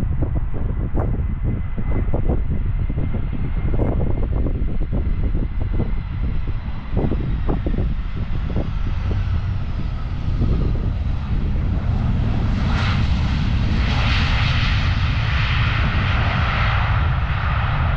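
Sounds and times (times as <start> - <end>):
jet engines of landing plane: 0.0 - 17.9.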